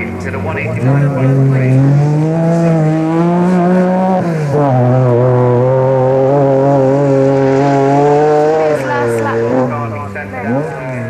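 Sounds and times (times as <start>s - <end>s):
racing car engine at full throttle: 0.0s - 11.0s.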